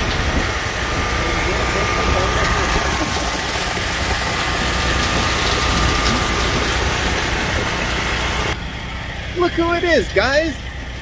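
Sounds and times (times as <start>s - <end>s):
concrete mixer truck running: 0.0s - 11.0s.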